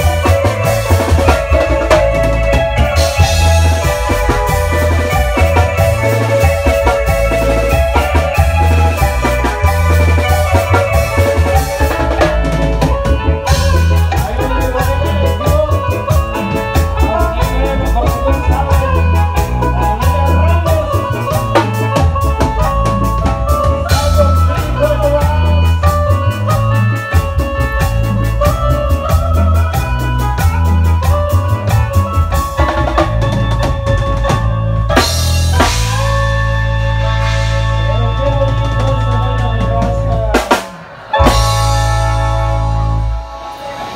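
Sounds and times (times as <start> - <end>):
bass line: 0.0 - 43.9
drum kit: 0.0 - 43.9
organ-like keyboard melody: 0.0 - 43.9.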